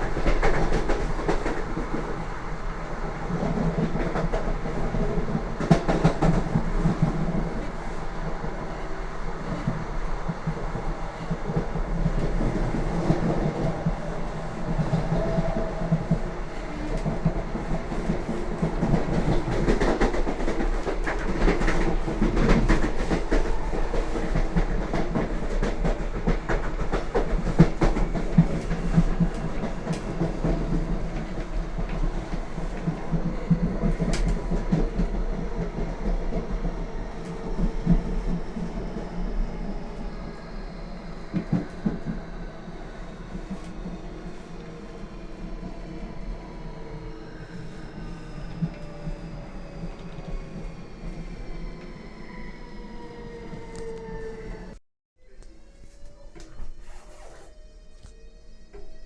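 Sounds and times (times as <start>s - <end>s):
train rumble: 0.0s - 54.8s.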